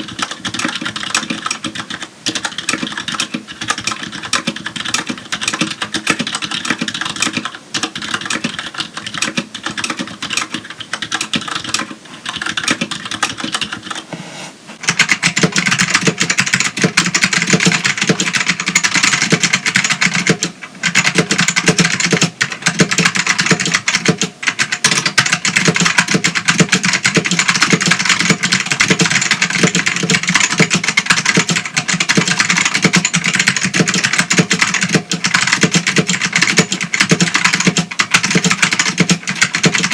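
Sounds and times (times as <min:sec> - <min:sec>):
keyboard typing: 0:00.0 - 0:14.1, 0:14.8 - 0:39.9
louder sharper keyboard typing: 0:00.0 - 0:14.1, 0:14.8 - 0:39.9.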